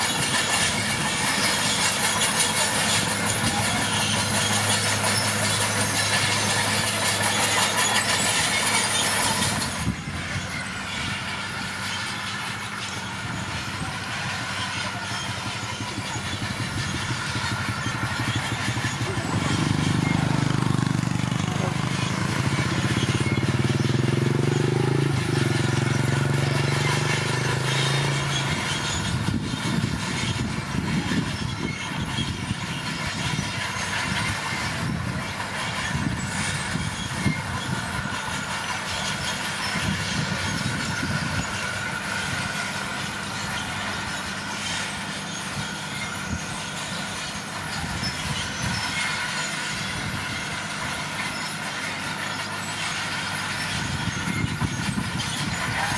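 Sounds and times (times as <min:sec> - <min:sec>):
diesel engine rumbling: 0:00.0 - 0:55.9
steel tracks clattering and squealing: 0:00.0 - 0:55.9.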